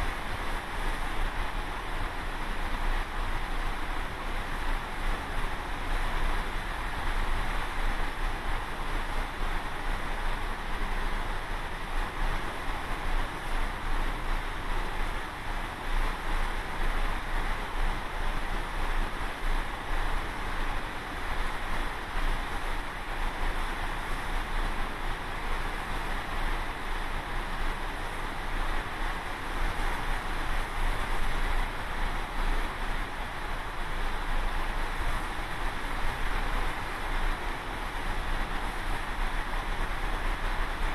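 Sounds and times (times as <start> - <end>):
water rushing along ship: 0.0 - 40.9.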